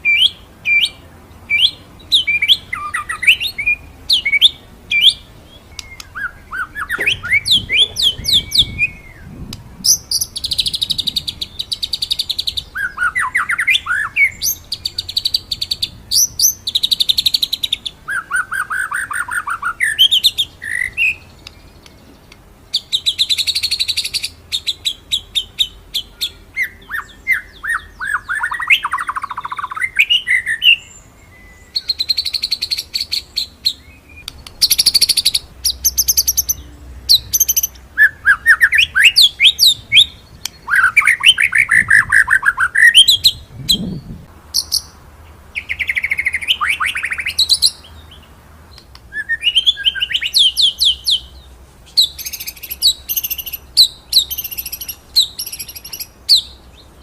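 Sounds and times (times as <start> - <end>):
songbird singing rapid phrases: 0.0 - 57.0.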